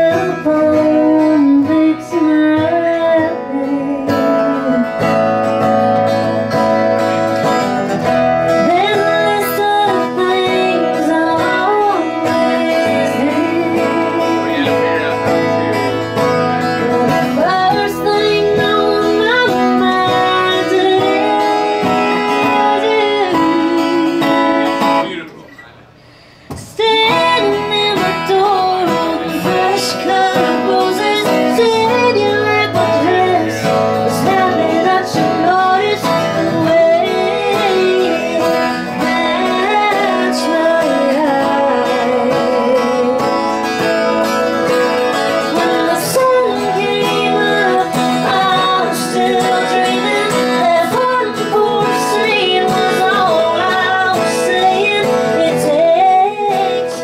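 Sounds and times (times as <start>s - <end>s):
woman singing: 0.0s - 24.9s, 26.6s - 57.0s
strummed acoustic guitars: 0.0s - 57.0s.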